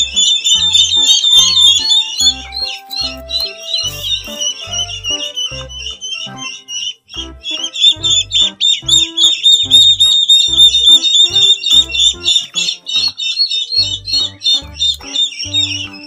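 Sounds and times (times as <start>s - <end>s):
background music with bass line: 0.0s - 13.2s, 13.8s - 16.0s
ducklings peeping: 0.0s - 16.0s.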